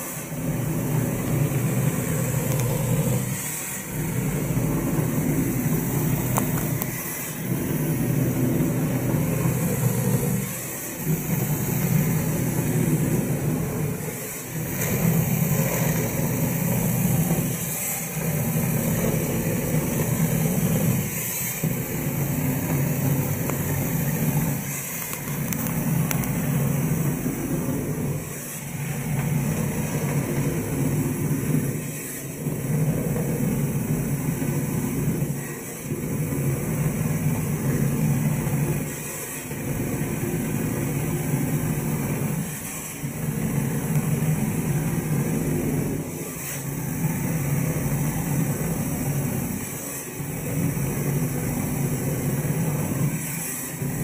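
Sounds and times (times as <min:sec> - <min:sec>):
pumping machinery drone: 0:00.0 - 0:54.0.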